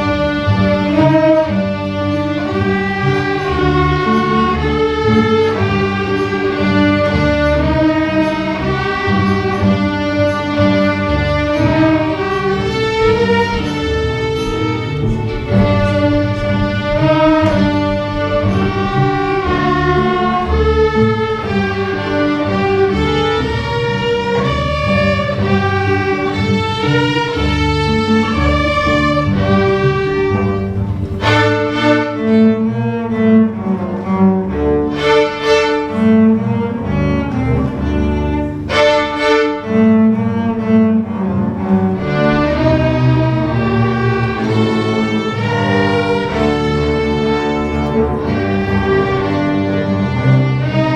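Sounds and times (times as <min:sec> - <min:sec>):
low bowed bass line: 0:00.0 - 0:50.9
string orchestra playing melody: 0:00.0 - 0:50.9.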